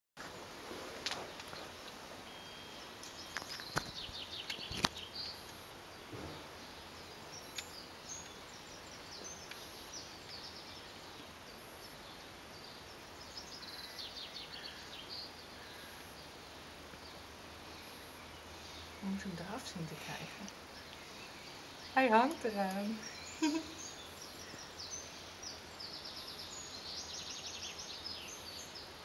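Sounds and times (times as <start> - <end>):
outdoor background noise: 0.2 - 29.0
small birds chirping: 0.2 - 29.0.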